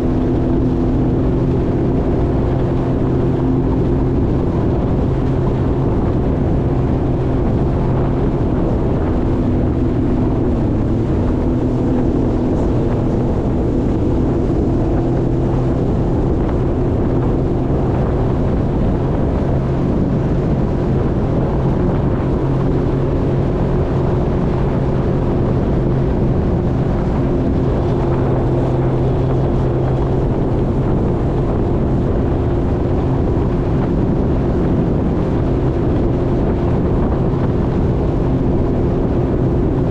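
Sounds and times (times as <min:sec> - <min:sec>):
jet ski engine humming: 0:00.0 - 0:39.9
wind buffeting microphone: 0:00.0 - 0:39.9.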